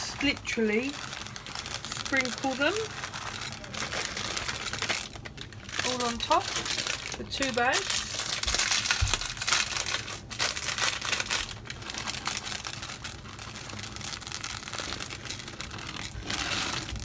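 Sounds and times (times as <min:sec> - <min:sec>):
plastic packet crinkling: 0:00.0 - 0:17.0.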